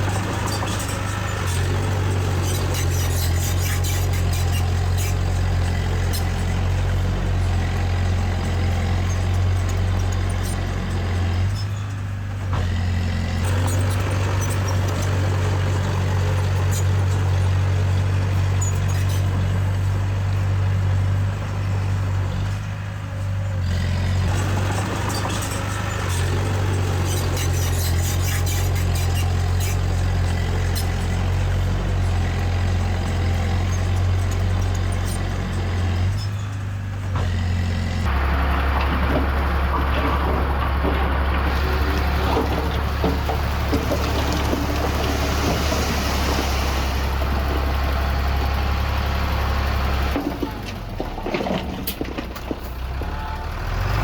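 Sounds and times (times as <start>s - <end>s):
diesel machinery engine running: 0.0s - 54.0s.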